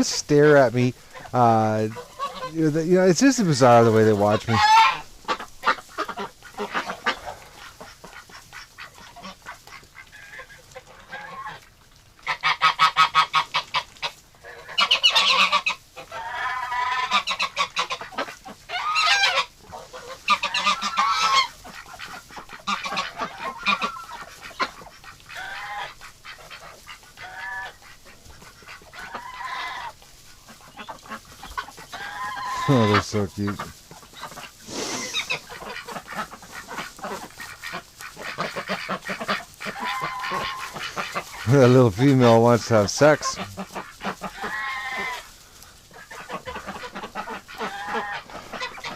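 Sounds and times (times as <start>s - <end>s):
duck and goose chatter: 0.0s - 48.9s
geese honking: 0.0s - 48.9s.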